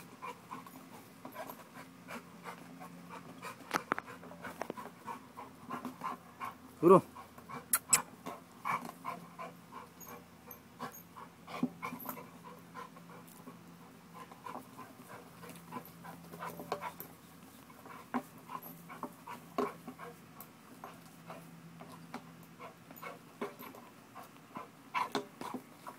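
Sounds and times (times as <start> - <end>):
dog panting: 0.0 - 25.9.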